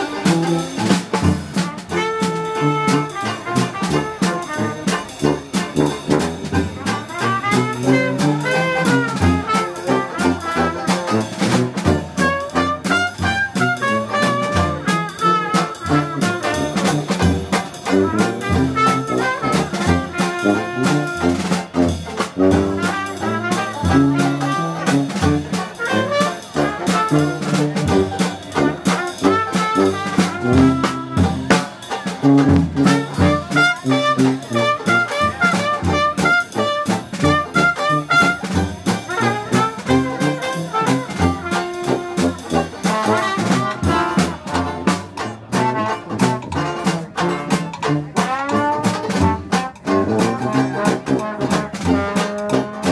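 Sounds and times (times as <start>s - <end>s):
dixieland jazz band playing: 0.0s - 52.9s.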